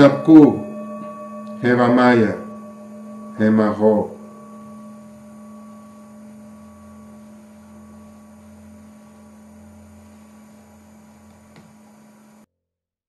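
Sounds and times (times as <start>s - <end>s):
faint background hiss: 0.0s - 12.5s
low electrical hum: 0.0s - 12.5s.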